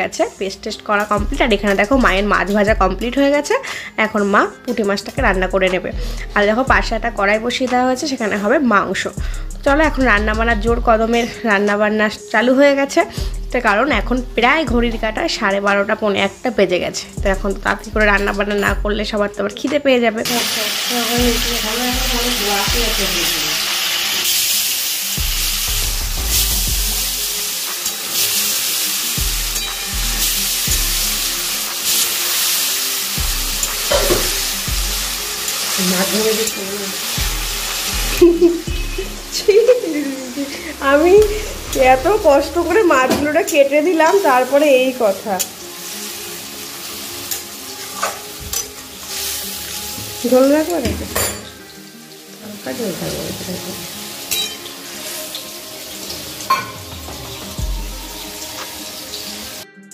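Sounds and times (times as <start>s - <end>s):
hot oil sizzling: 1.0s - 19.6s, 20.2s - 59.7s.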